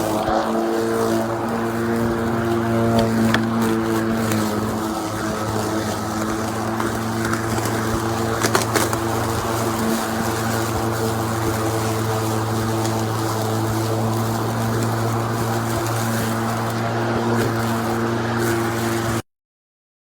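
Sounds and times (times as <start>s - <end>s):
electric lawn mower humming: 0.0s - 19.2s.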